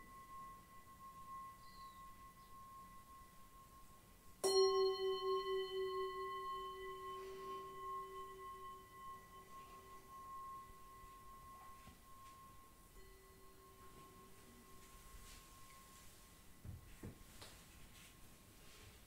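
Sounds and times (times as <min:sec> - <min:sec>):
singing bowl struck: 0:00.0 - 0:16.6
high steady bowl tone: 0:00.0 - 0:18.8.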